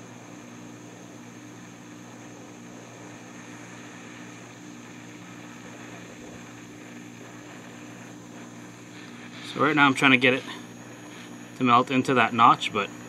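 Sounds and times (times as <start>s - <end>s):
low hum: 0.0s - 13.0s
torch flame hissing: 0.0s - 13.0s.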